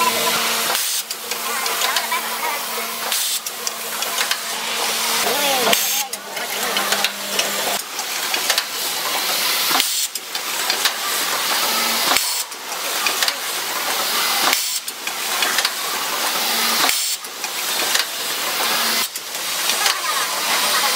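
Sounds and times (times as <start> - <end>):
machine hissing mechanical noise: 0.0 - 20.9.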